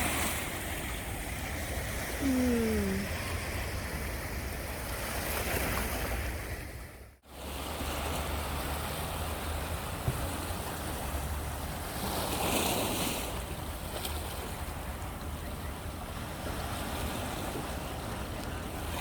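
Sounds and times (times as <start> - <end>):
sea waves washing ashore: 0.0 - 19.0.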